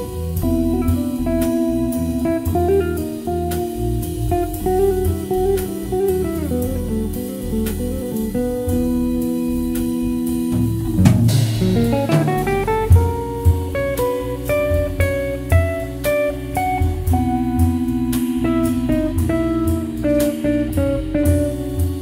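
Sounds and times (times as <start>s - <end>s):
drum kit: 0.0s - 22.0s
electric guitar melody: 0.0s - 22.0s
organ chords: 0.0s - 22.0s.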